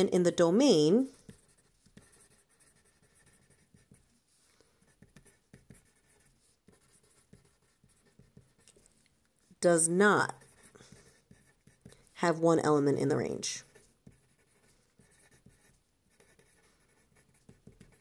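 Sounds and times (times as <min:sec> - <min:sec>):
pen scratching on paper: 0:01.0 - 0:09.0, 0:10.0 - 0:18.0.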